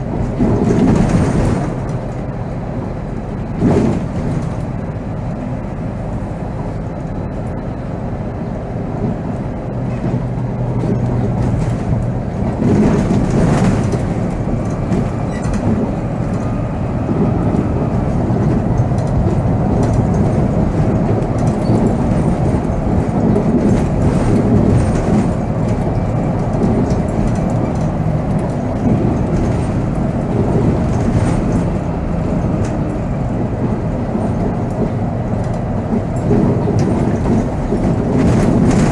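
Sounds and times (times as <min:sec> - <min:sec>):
diesel engine drone: 0:00.0 - 0:38.9
road noise: 0:00.0 - 0:38.9.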